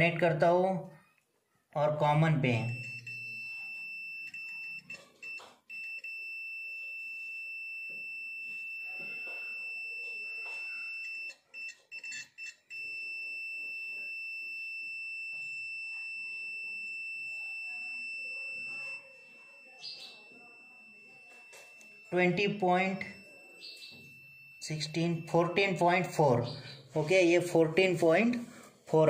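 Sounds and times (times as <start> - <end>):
multimeter continuity beep: 1.9 - 28.3.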